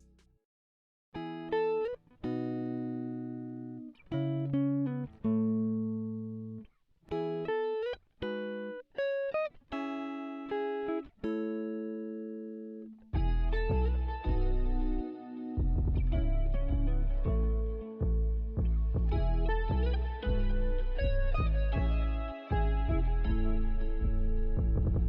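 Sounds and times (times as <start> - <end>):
plucked guitar playing: 1.2 - 25.0.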